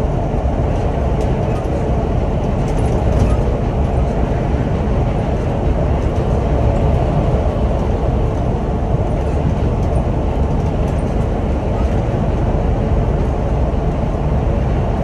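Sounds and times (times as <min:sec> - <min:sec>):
bus engine drone: 0:00.0 - 0:15.0
road and tyre rumble: 0:00.0 - 0:15.0.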